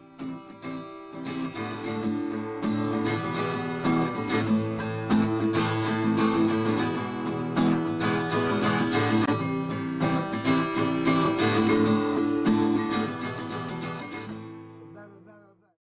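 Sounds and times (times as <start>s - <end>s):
strummed acoustic guitar music: 0.0s - 15.6s.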